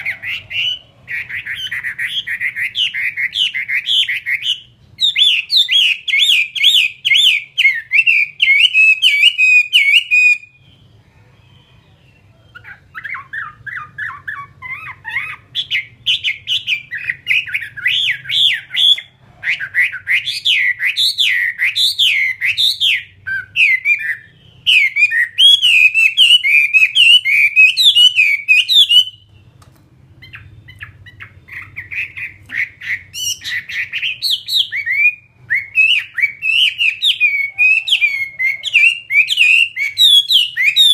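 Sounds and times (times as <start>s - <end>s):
songbird whistling rapidly: 0.0s - 10.8s, 12.4s - 29.4s, 30.2s - 40.9s.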